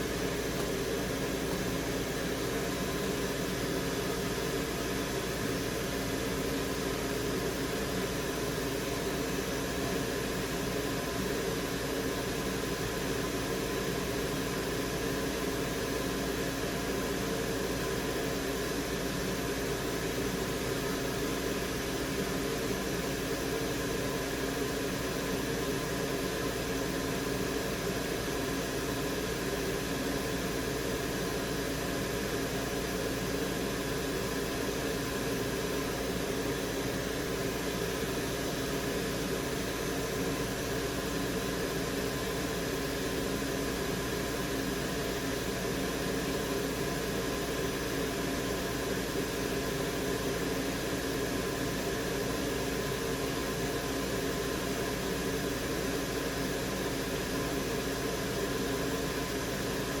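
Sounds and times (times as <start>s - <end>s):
fan whirring: 0.0s - 60.0s.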